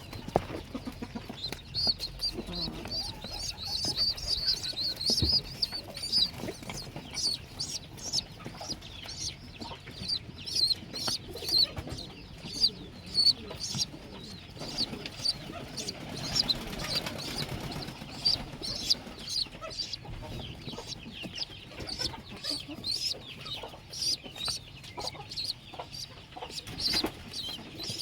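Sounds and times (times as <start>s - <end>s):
pigeon squabs peeping: 0.0s - 28.0s.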